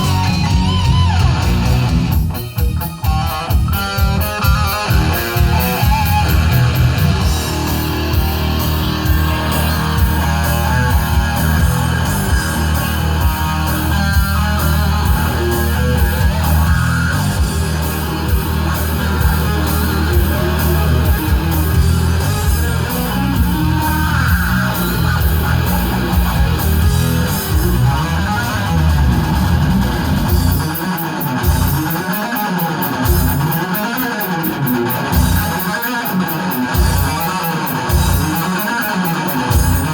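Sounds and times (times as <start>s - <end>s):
bass guitar: 0.0s - 39.9s
lead electric guitar: 0.0s - 39.9s.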